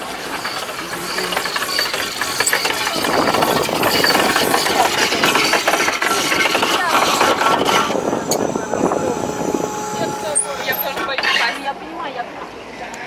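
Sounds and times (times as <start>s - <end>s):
boat engine clattering: 0.0s - 13.0s.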